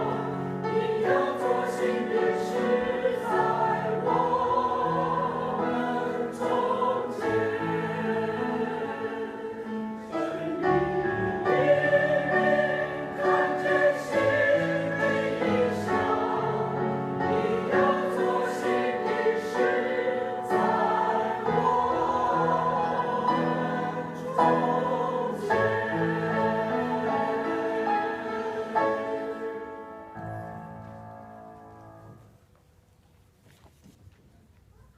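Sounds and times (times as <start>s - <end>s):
choir singing with accompaniment: 0.0s - 32.0s.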